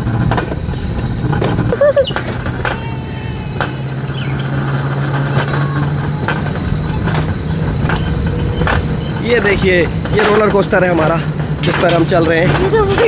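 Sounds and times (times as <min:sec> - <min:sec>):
wheels rumbling on rails: 0:00.0 - 0:13.0.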